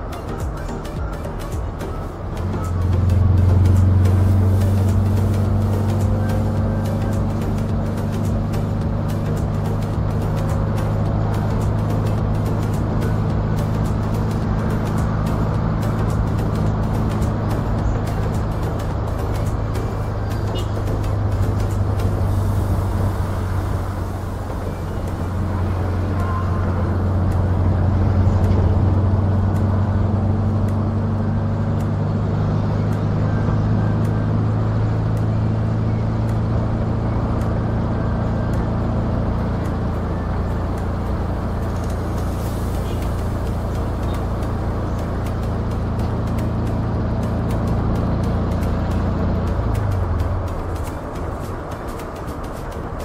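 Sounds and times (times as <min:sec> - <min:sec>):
minibus engine running: 0:00.0 - 0:53.0
road noise: 0:00.0 - 0:53.0.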